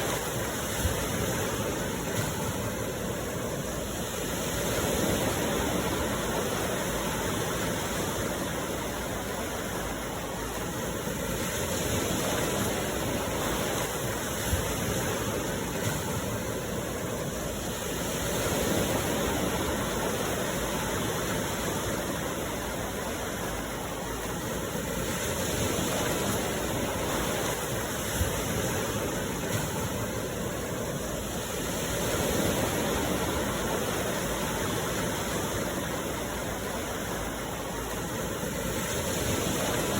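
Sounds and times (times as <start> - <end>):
sea surf washing in: 0.0 - 39.9.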